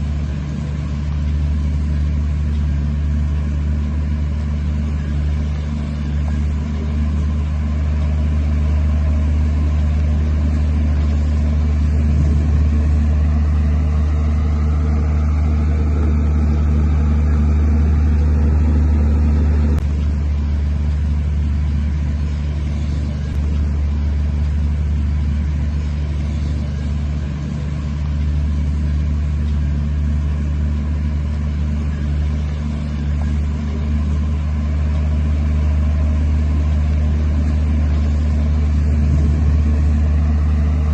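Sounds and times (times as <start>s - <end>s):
heavy diesel engine drone: 0.0s - 40.9s.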